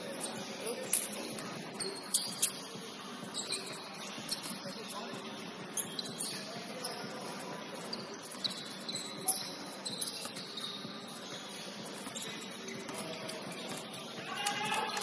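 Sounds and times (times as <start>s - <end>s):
sneakers squeaking on court: 0.0s - 14.2s
low hubbub of gym: 0.0s - 15.0s.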